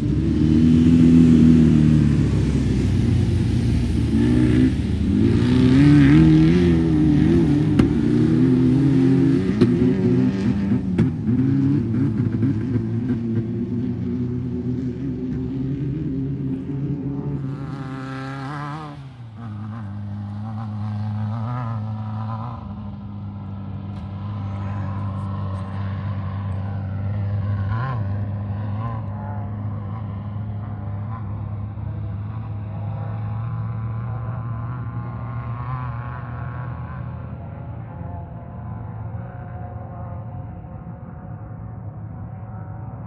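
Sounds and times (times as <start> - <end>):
race car engines revving: 0.0 - 43.0.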